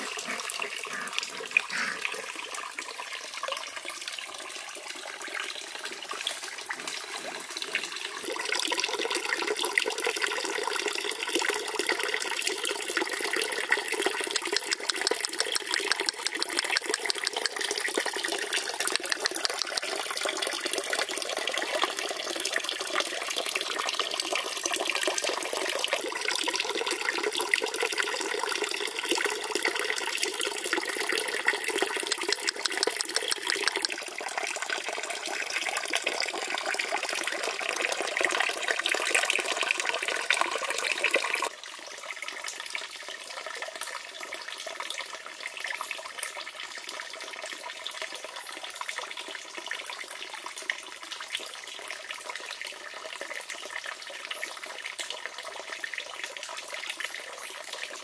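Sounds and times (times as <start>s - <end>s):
fountain splashing into pond: 0.0s - 58.0s.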